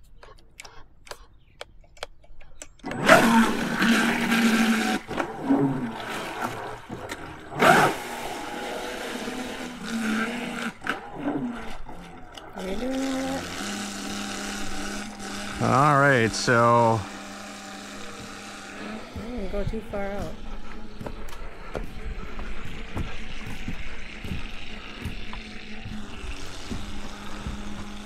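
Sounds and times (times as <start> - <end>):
churning water: 2.8 - 28.0
speedboat motor whine: 2.8 - 28.0.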